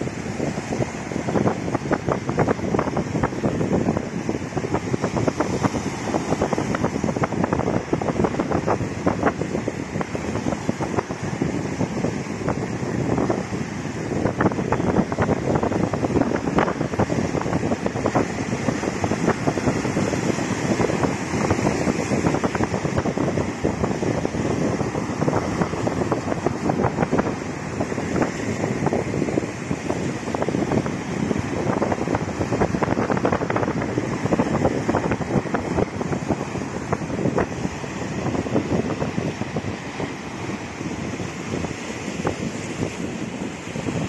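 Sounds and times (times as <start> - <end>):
waves breaking on rocks: 0.0 - 44.0
wind buffeting microphone: 0.0 - 44.0.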